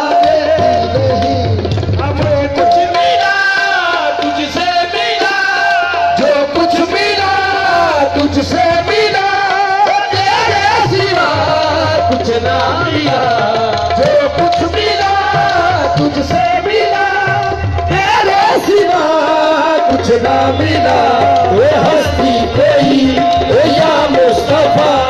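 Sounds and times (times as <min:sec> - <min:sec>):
tabla: 0:00.0 - 0:25.0.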